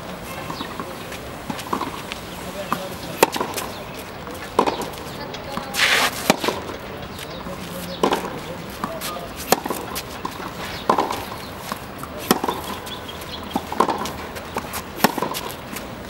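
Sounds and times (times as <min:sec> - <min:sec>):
tennis ball hit by racket: 0:00.4 - 0:15.9.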